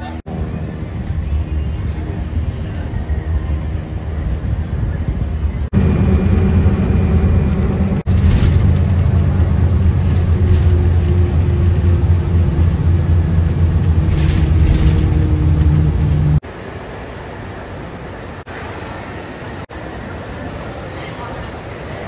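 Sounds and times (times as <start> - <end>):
low engine rumble: 0.0 - 22.0.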